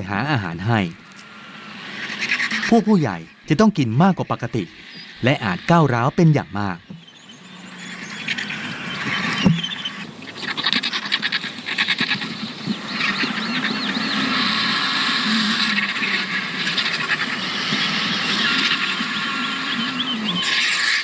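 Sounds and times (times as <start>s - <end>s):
vultures clattering: 0.0s - 21.0s
vultures hissing and squealing: 0.0s - 21.0s.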